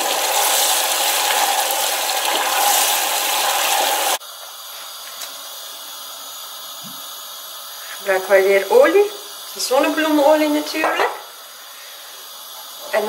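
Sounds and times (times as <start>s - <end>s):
sauce sizzling in oil: 0.0s - 13.0s.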